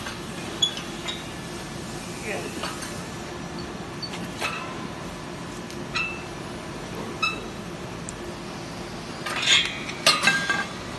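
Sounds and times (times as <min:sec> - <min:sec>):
workshop hum: 0:00.0 - 0:10.9.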